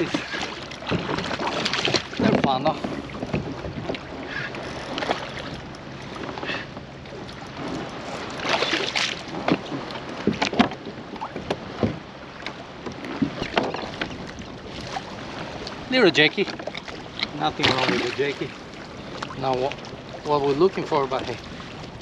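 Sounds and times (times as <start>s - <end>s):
knocks and rattles on kayak: 0.0s - 22.0s
water noise: 0.0s - 22.0s.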